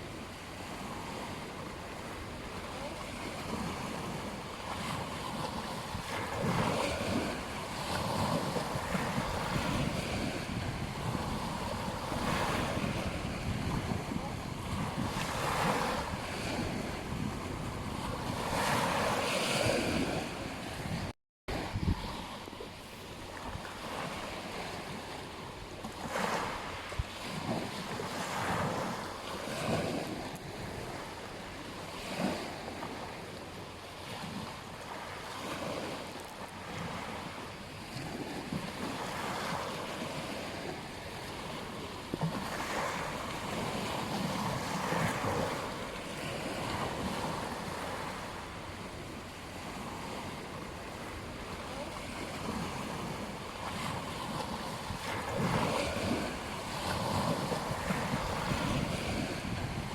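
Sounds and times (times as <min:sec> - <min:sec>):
wind buffeting microphone: 0:00.0 - 0:33.2, 0:36.7 - 0:59.9
ocean waves breaking on beach: 0:00.0 - 0:59.9.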